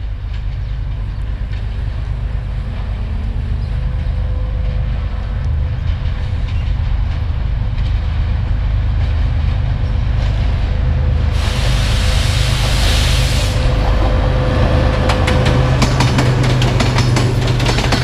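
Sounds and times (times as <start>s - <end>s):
diesel train rumble: 0.0s - 18.0s.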